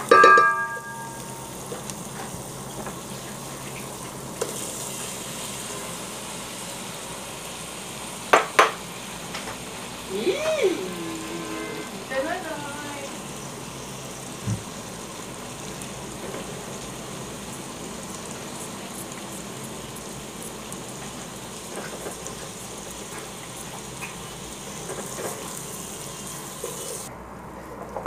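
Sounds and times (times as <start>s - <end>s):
mushrooms sizzling in oil: 0.0s - 27.1s.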